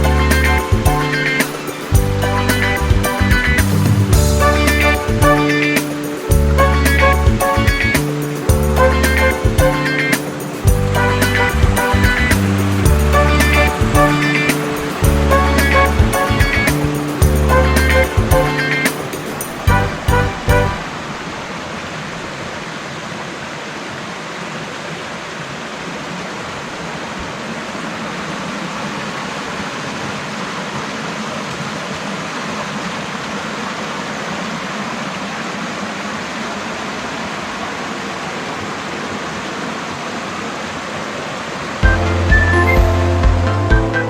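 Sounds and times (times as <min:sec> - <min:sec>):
waterfall rushing: 0:00.0 - 0:43.7.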